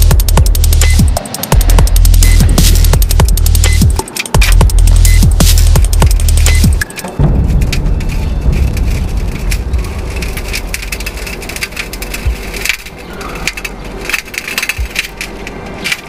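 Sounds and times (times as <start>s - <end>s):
sharp cracks: 0.0s - 16.0s
roof panel crackling and scraping: 0.7s - 16.0s.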